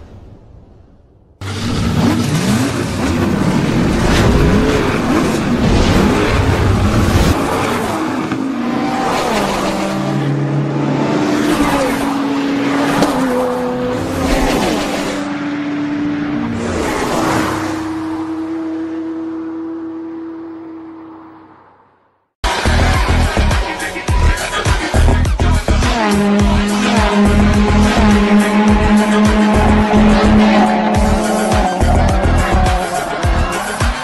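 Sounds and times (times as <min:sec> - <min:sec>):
race car engines revving and passing: 0:01.4 - 0:22.6, 0:23.4 - 0:34.0.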